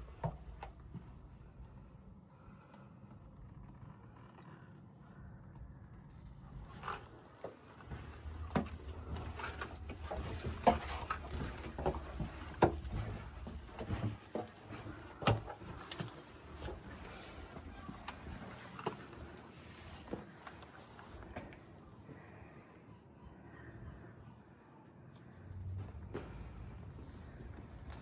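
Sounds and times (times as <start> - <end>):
steady low street rumble: 0.0 - 28.0.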